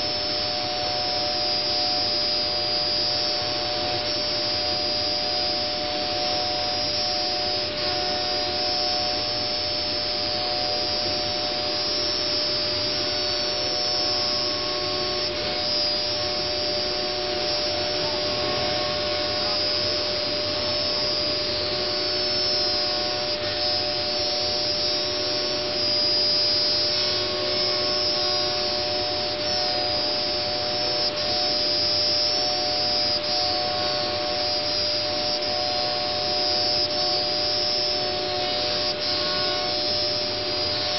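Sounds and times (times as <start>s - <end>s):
cnc router whining: 0.0s - 40.9s.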